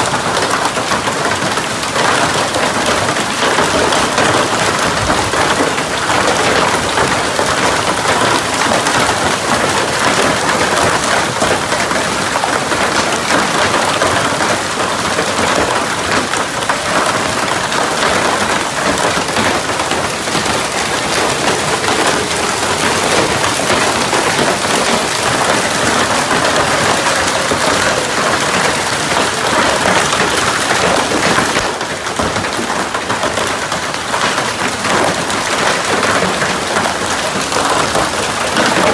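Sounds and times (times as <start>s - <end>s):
hail rattling on metal and plastic: 0.0s - 38.9s.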